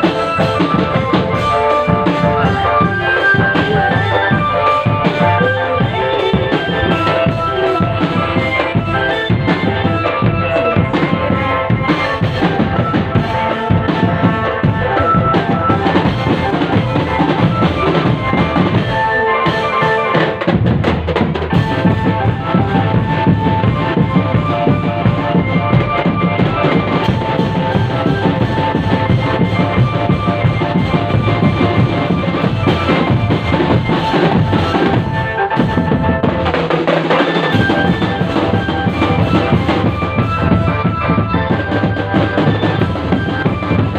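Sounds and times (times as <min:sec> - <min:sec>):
drums beating: 0:00.0 - 0:43.9
melody of held notes: 0:00.0 - 0:43.9.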